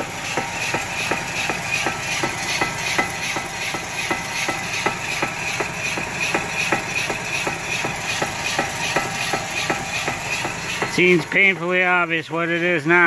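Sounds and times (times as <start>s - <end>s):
wheel bearing knocking: 0.0s - 11.8s
wheel grinding rush: 0.0s - 12.6s.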